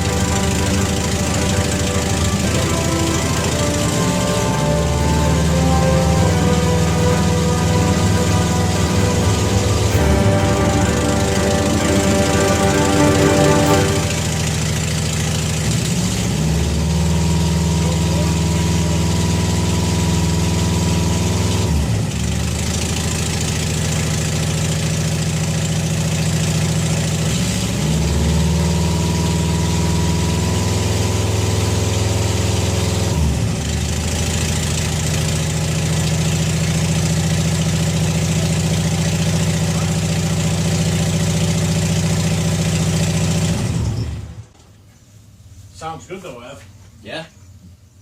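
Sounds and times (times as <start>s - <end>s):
car engine idling: 0.0s - 21.4s, 22.0s - 27.5s, 32.0s - 45.8s.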